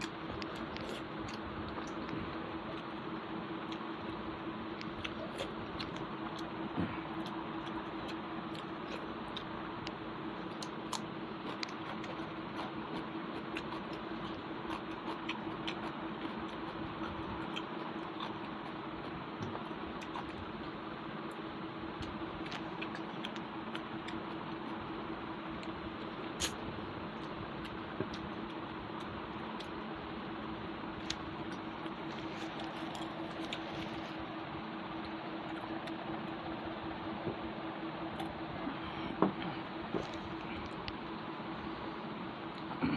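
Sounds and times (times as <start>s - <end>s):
chewing and mouth sounds: 0.0s - 29.9s, 30.9s - 36.6s
low hum and hiss: 0.0s - 42.9s.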